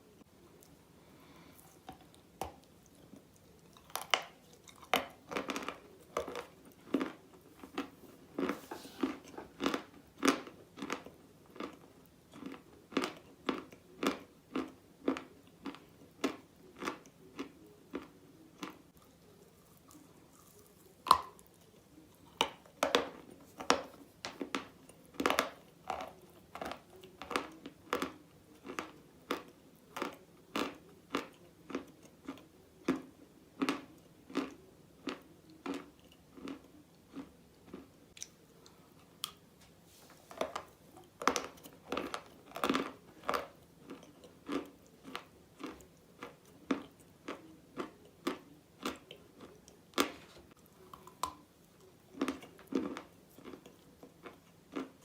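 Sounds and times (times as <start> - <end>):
crunchy chewing: 0.5 - 55.0.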